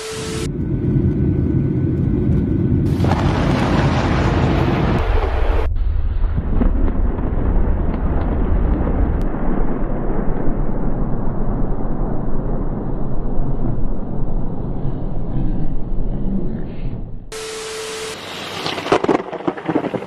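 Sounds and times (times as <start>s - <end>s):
thunder rumbling: 0.4s - 16.2s, 18.6s - 20.0s.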